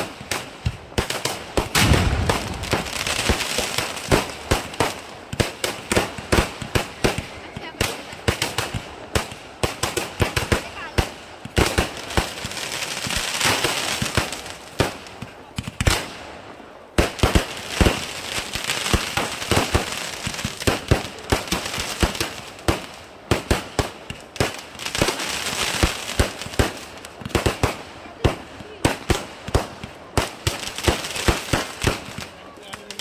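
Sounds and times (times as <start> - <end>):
fireworks bangs: 0.0 - 33.0
fireworks crackling hiss: 0.0 - 33.0.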